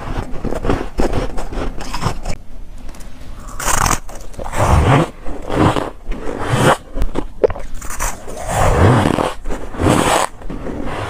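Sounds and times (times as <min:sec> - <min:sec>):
crunchy chewing of frost: 0:00.0 - 0:02.4, 0:03.4 - 0:11.0.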